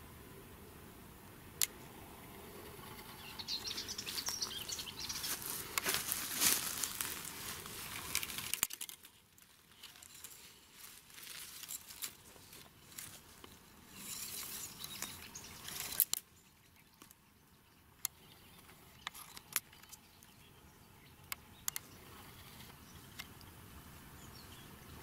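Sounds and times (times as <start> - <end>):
dry grass and leaves rustling: 1.6 - 23.8.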